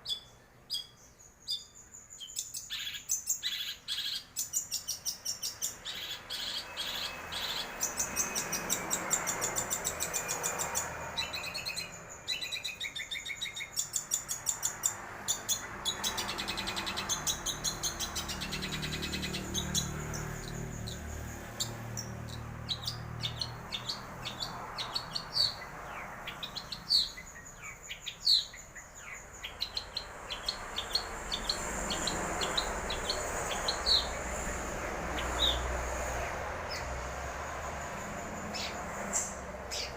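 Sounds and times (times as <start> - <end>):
bird singing trills and chirps: 0.0 - 39.9.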